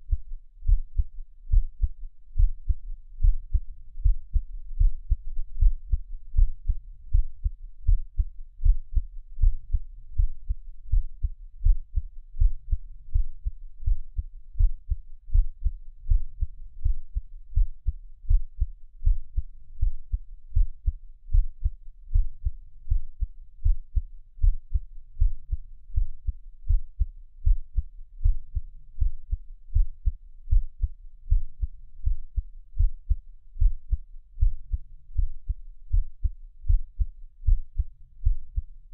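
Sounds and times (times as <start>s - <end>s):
heartbeat thumps: 0.0s - 38.6s.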